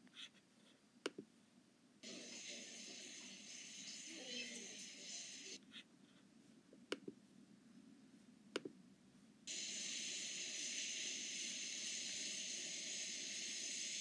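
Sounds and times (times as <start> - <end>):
steady speaker hiss: 0.0 - 14.0.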